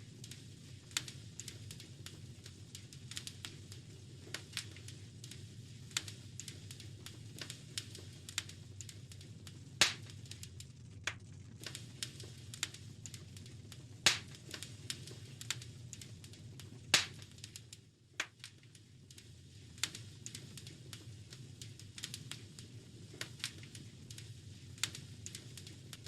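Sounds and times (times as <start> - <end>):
fire popping: 0.0 - 26.0
low rumble of flames: 0.0 - 26.0
wood fire crackling: 0.0 - 26.0.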